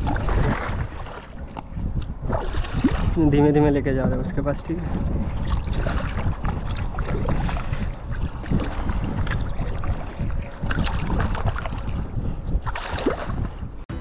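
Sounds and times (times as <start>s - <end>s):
paddle splashing water: 0.0s - 3.3s, 5.0s - 13.6s
wind rumbling on microphone: 0.0s - 14.0s.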